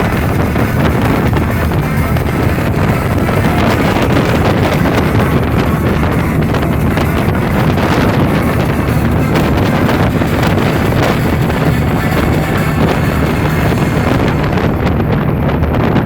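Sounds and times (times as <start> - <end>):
boat engine: 0.0 - 16.0
music playing: 0.0 - 16.0
water rushing: 0.0 - 16.0
wind buffeting microphone: 0.0 - 16.0.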